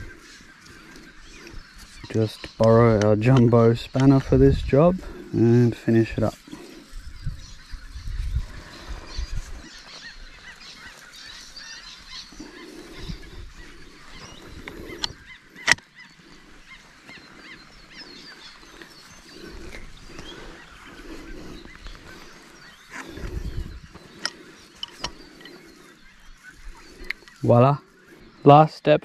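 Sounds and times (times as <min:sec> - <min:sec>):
bird calls: 0:00.0 - 0:29.0.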